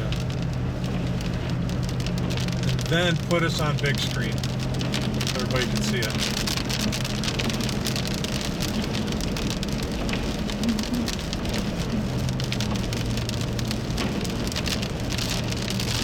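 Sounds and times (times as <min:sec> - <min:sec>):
rain on vehicle roof: 0:00.0 - 0:16.0
vehicle low hum: 0:00.0 - 0:16.0.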